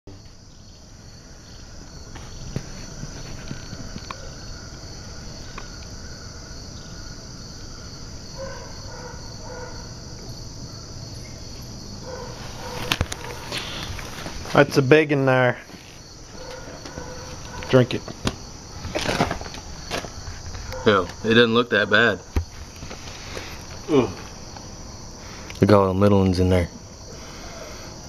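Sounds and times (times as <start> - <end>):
insects chirring: 0.1 - 28.0.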